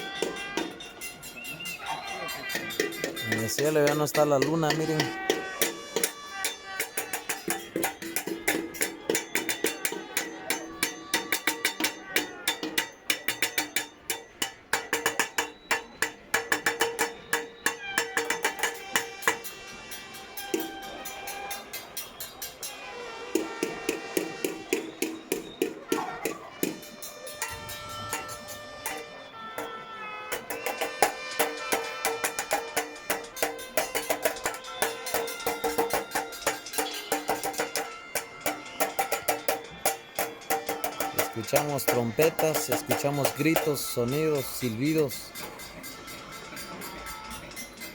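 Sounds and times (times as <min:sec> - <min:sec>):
metal tools clanging: 0:00.0 - 0:47.9
metallic ringing tones: 0:00.0 - 0:47.9.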